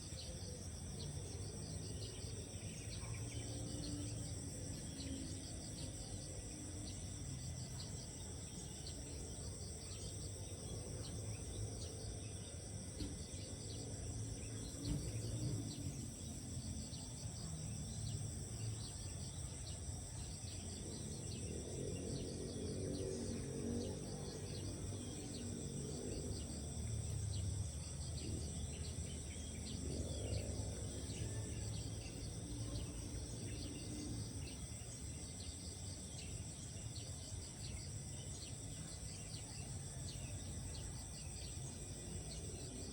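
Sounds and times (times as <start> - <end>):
crickets and insects chirring: 0.0 - 42.9.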